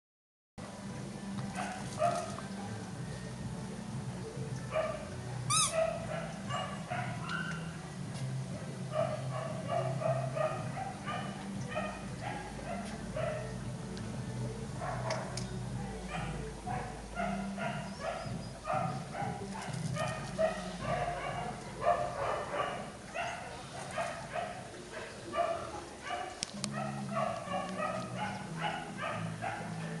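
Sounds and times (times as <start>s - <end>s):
dogs barking and yipping: 1.5s - 2.8s, 4.7s - 7.8s, 8.8s - 13.7s, 14.7s - 30.0s.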